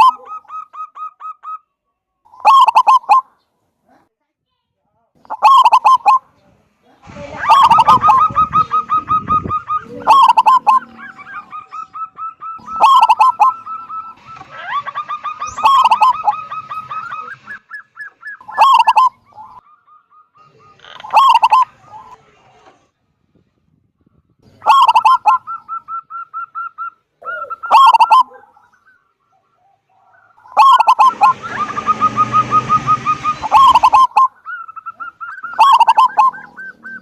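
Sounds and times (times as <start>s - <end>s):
dove cooing: 0.0s - 1.6s, 2.3s - 3.4s, 5.3s - 6.2s, 7.4s - 22.2s, 24.5s - 37.0s.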